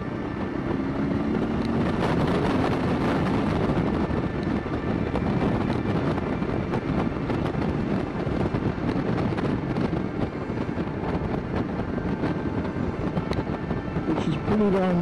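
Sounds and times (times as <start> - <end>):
motorcycle engine and road rumble: 0.0 - 15.0
wind buffeting microphone: 0.0 - 15.0.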